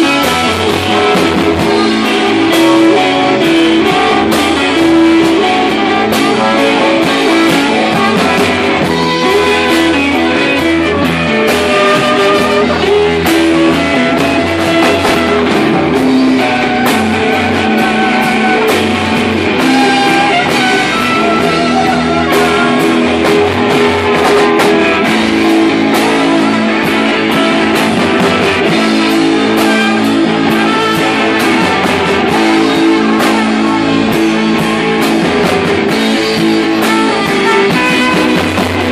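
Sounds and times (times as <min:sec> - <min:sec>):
electric guitar: 0:00.0 - 0:38.9
live rock band playing: 0:00.0 - 0:38.9
steady drum beat: 0:00.0 - 0:38.9.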